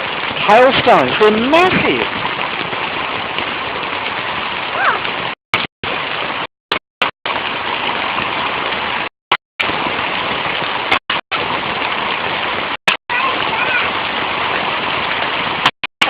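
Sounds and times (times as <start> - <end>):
heavy rain and hail: 0.0 - 15.8.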